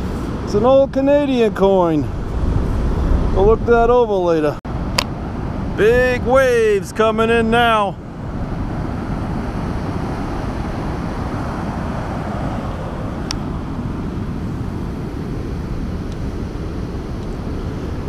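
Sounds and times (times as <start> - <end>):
heavy surf breaking: 0.0 - 18.0
wind buffeting microphone: 0.0 - 18.0.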